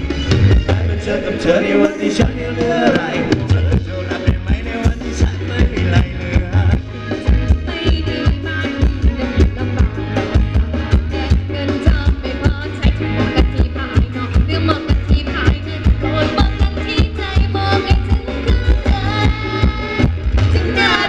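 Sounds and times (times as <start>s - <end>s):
live band playing dance music: 0.0s - 21.0s
steady drum beat: 0.0s - 21.0s
strong bass line: 0.0s - 21.0s.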